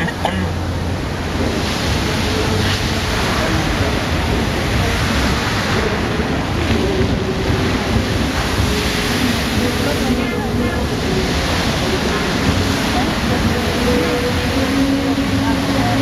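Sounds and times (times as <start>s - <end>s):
fountain water jets splashing: 0.0s - 16.0s.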